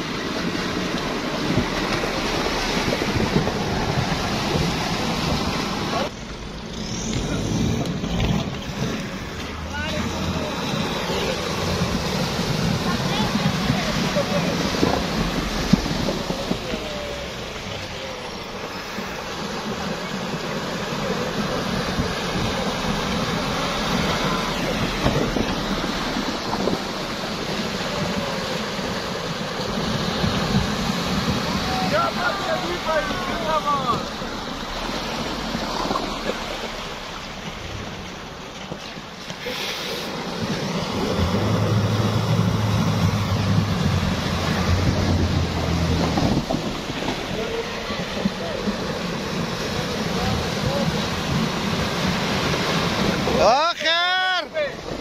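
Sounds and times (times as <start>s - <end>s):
vehicle engine noise: 0.0s - 55.0s
wheels splashing through water: 0.0s - 55.0s.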